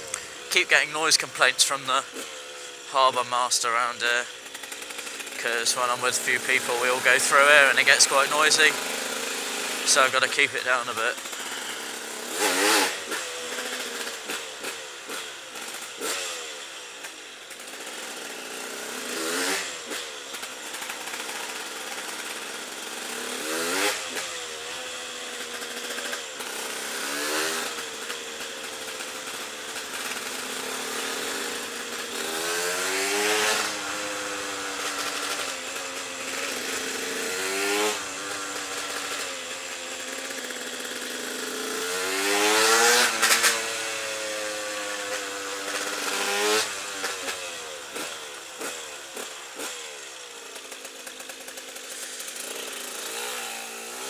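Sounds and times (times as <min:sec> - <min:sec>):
motorcycle engine with throttle blips: 0:00.0 - 0:54.0.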